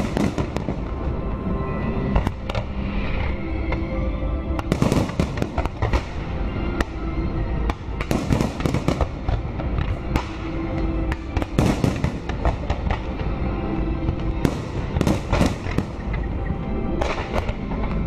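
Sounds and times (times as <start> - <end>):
fireworks bangs and crackles: 0.0 - 2.8, 4.5 - 18.0
music playing: 0.0 - 18.0.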